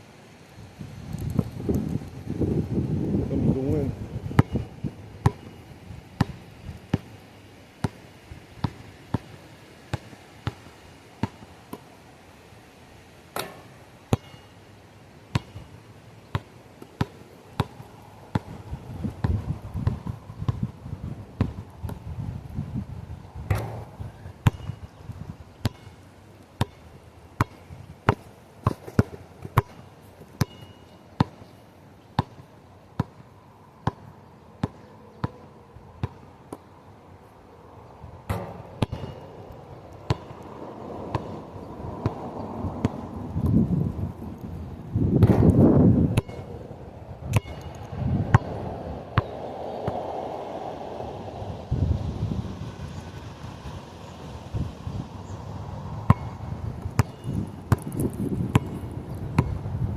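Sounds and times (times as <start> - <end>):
low rumble of wind: 0.0 - 59.9.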